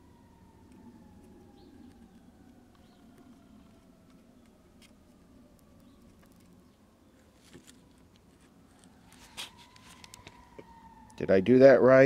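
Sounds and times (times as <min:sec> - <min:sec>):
distant siren: 0:00.0 - 0:12.0.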